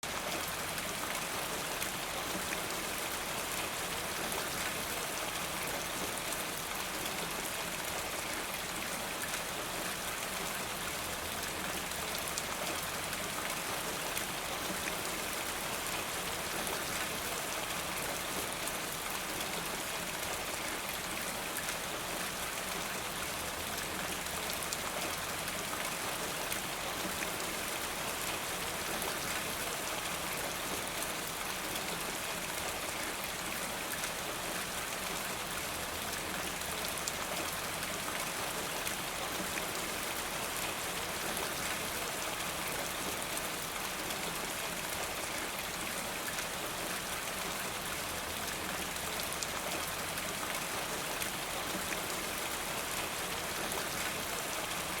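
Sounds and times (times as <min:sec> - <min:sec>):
rain on a gutter: 0:00.0 - 0:55.0.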